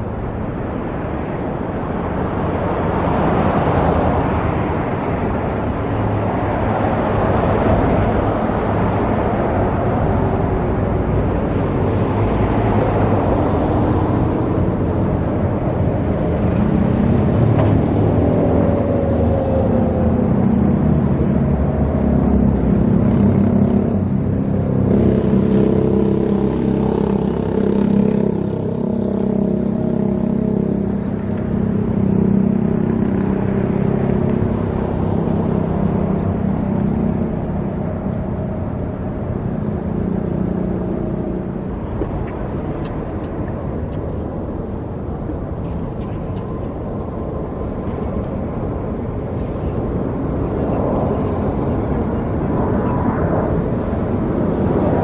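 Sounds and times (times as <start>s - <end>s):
cars passing by: 0.0s - 55.0s.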